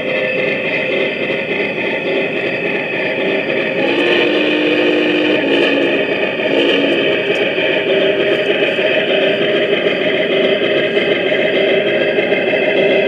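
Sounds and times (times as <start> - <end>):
model steam locomotive sounds: 0.0 - 13.0
motor and wheel noise: 0.0 - 13.0.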